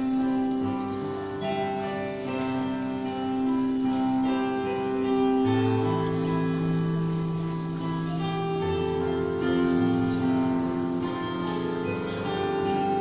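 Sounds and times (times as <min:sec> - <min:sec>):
sustained chords music: 0:00.0 - 0:13.0.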